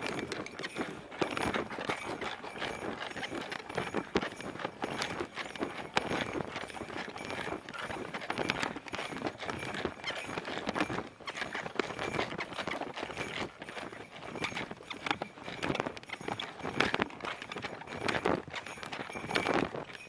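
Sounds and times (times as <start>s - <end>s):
dog footsteps on stone paving: 0.0s - 20.0s
gear jostling: 0.0s - 20.0s.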